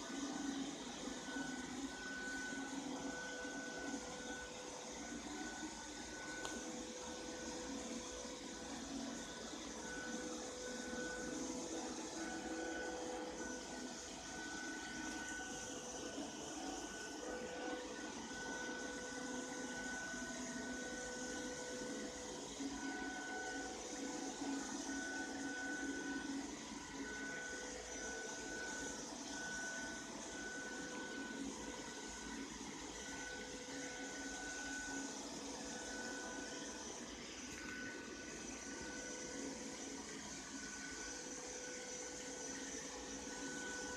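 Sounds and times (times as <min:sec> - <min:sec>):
robot vacuum cleaner whirring: 0:00.0 - 0:43.9.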